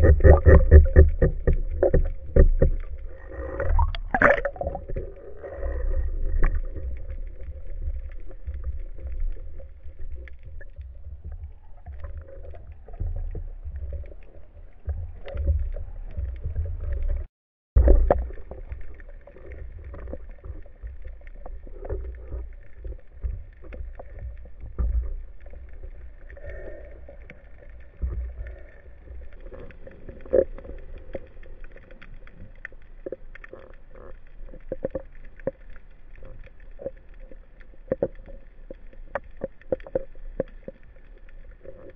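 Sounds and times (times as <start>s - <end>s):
muffled underwater rumble: 0.0s - 41.9s.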